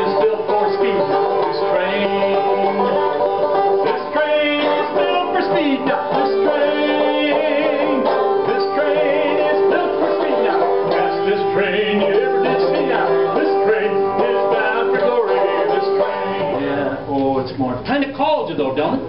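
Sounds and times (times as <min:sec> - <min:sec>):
banjo playing bluegrass tune: 0:00.0 - 0:17.2.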